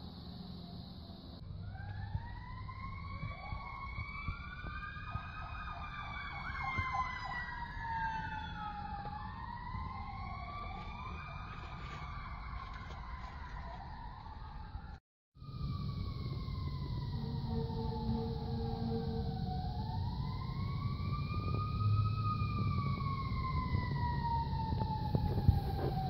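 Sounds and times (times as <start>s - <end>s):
fire engine sirens wailing: 0.0s - 26.0s.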